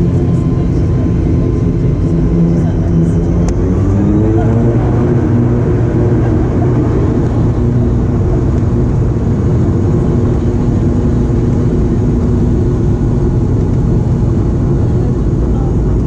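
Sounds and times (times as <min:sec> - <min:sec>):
turboprop engines and propellers: 0:00.0 - 0:16.0.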